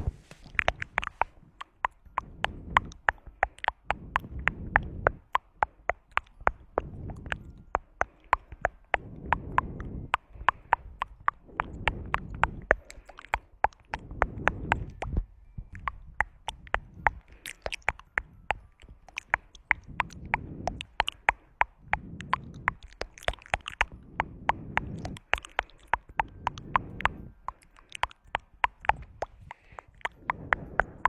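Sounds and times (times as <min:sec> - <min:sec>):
soft mouth and breath noise: 0:00.0 - 0:31.0
tongue clicking: 0:00.0 - 0:31.0.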